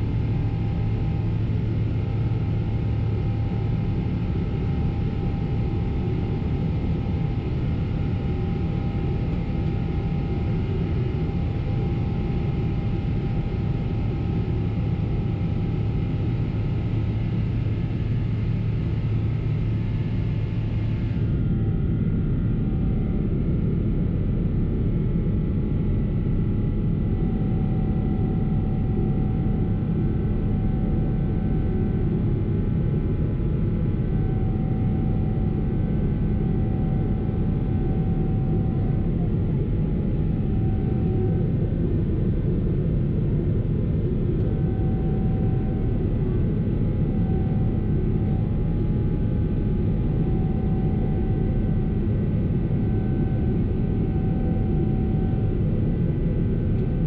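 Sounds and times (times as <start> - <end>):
airplane cabin engine roar: 0.0 - 57.0.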